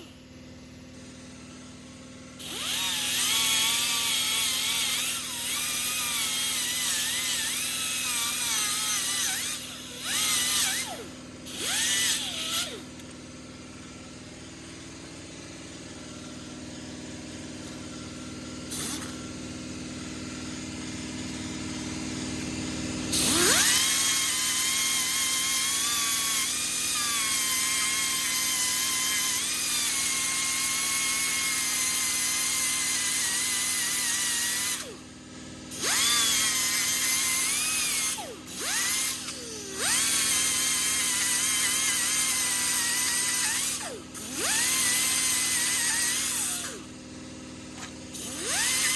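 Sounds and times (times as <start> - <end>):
die grinder whining: 0.0 - 48.9.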